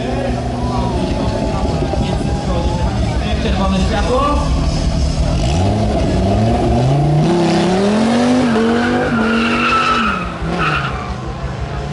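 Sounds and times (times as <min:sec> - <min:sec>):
car engine accelerating hard: 0:00.0 - 0:11.9.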